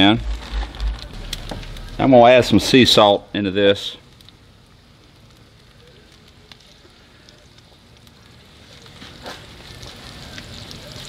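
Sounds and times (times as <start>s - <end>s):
onions sizzling in oil: 0.0s - 11.0s
sharp crackles: 0.0s - 11.0s.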